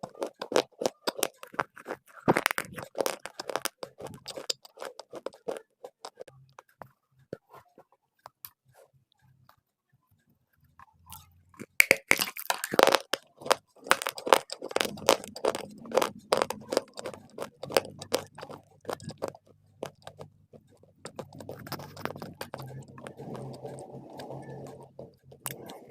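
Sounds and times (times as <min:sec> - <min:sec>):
person crunching and chewing: 0:00.0 - 0:06.3, 0:11.1 - 0:25.9.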